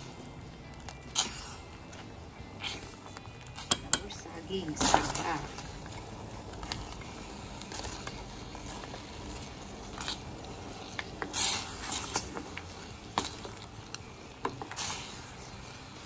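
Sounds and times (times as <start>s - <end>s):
syrup bubbling in a pot: 0.0s - 16.0s.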